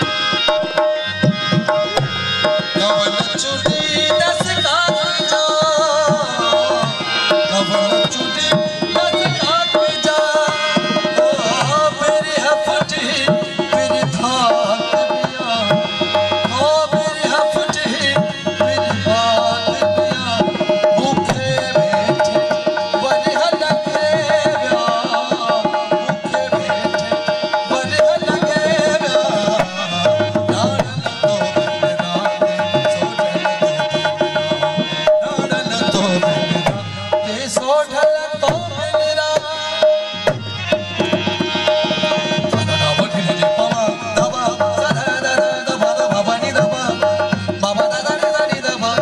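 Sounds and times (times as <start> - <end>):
hand drum fast rhythm: 0.0 - 49.0.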